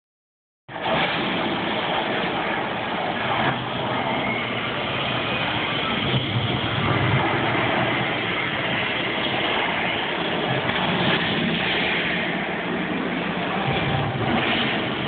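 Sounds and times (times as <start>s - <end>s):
volcano eruption rumbling roar: 0.7s - 15.0s.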